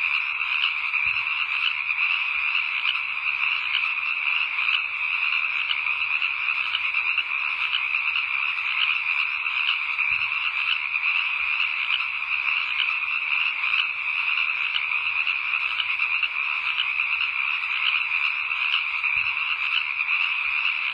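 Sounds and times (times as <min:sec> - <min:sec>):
chorus of frogs calling: 0:00.0 - 0:20.9.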